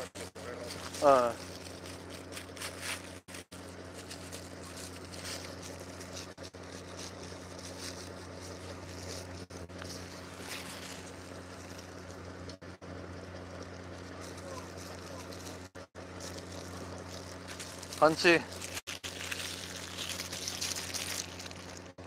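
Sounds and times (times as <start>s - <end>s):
boat engine droning: 0.0s - 22.0s
plastic bag crinkling: 0.6s - 12.5s, 14.0s - 22.0s.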